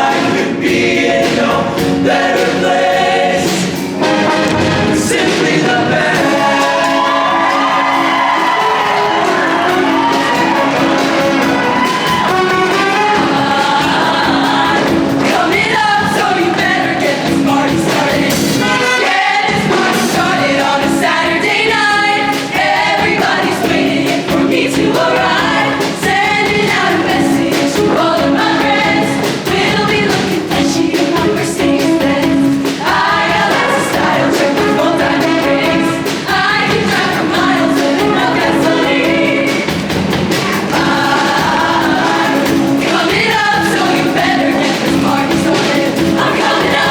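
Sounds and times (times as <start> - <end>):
amplified musical accompaniment: 0.0 - 46.9
choir singing: 0.0 - 46.9.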